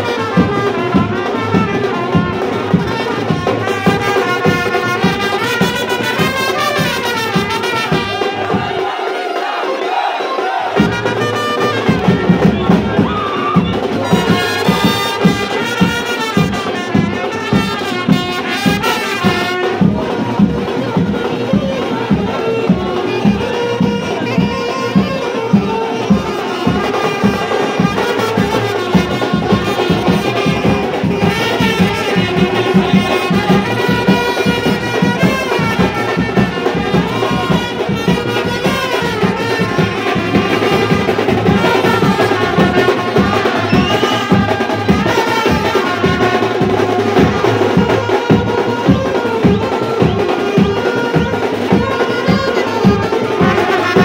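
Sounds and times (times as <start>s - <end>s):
brass band playing: 0.0s - 54.0s
steady drum beat: 0.0s - 54.0s.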